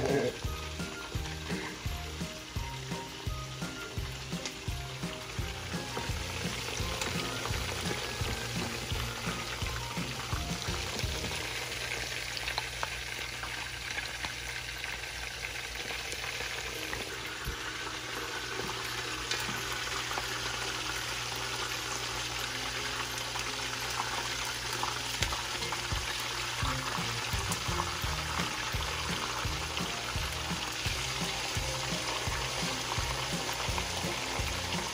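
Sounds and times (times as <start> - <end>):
food frying in hot oil: 0.0 - 34.9.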